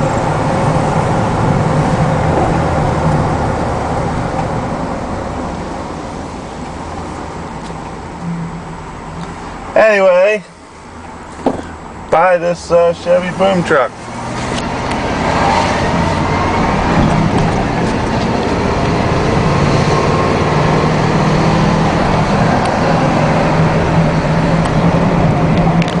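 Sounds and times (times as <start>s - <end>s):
road noise: 0.0s - 26.0s
truck engine humming: 0.0s - 26.0s.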